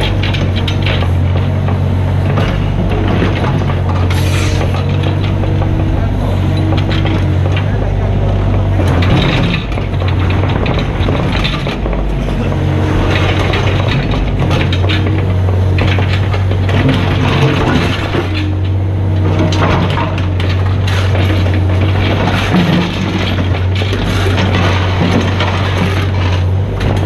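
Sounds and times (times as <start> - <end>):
diesel engine running: 0.0 - 27.0
machine scraping and clattering: 0.0 - 27.0.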